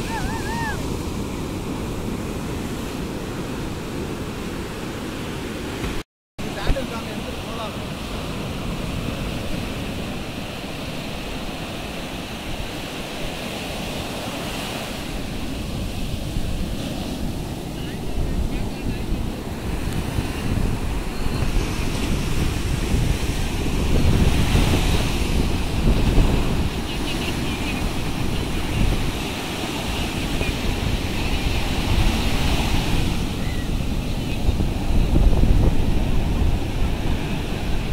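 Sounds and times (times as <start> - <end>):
ocean surf breaking on shore: 0.0 - 37.9
wind rumbling on microphone: 6.5 - 37.9.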